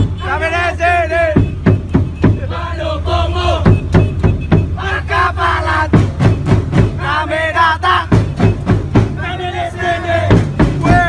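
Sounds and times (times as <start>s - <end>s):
steady drum beat: 0.0s - 11.0s
voices singing in unison: 0.0s - 11.0s.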